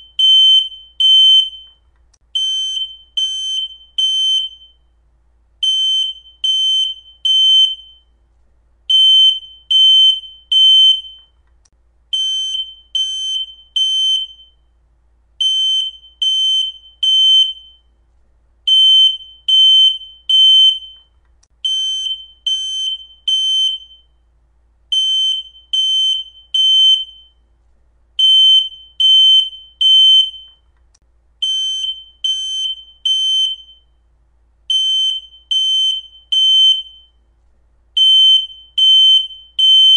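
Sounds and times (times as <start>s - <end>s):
smoke alarm beeping: 0.0s - 4.9s, 5.6s - 8.2s, 8.9s - 11.4s, 12.1s - 14.7s, 15.4s - 18.0s, 18.7s - 24.2s, 24.9s - 27.5s, 28.2s - 30.7s, 31.4s - 34.0s, 34.7s - 37.2s, 38.0s - 39.9s.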